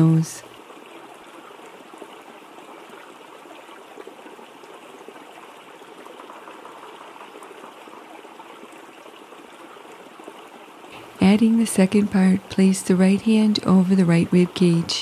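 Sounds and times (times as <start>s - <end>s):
waterfall: 0.0s - 15.0s.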